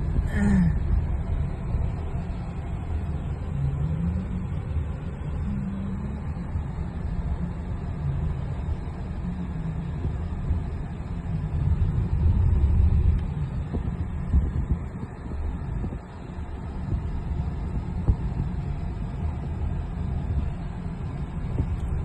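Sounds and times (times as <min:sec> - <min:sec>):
vehicle rumbling at slow speed: 0:00.0 - 0:22.0.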